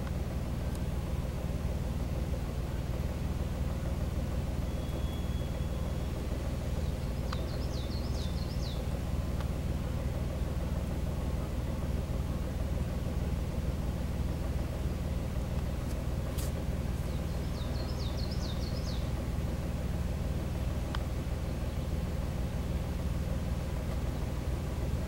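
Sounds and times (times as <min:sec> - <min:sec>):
ferry motor droning: 0:00.0 - 0:25.0.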